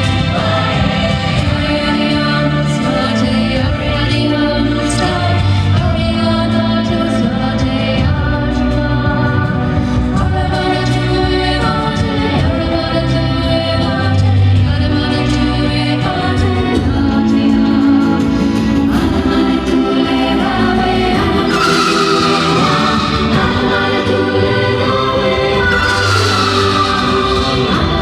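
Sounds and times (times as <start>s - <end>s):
song with sung vocals: 0.0s - 28.0s.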